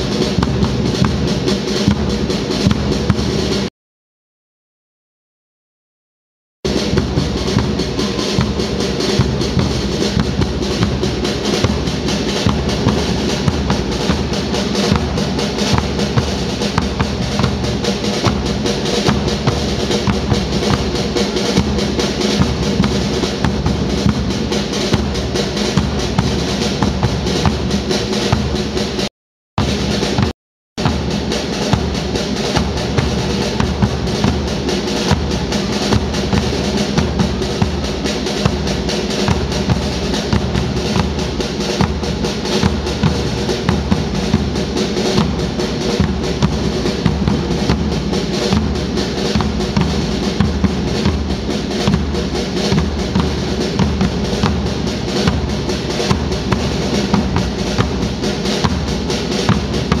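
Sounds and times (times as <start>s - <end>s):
marching band instruments playing tune: 0.0s - 3.7s, 6.7s - 60.0s
snare and bass drums: 0.0s - 3.7s, 6.6s - 60.0s.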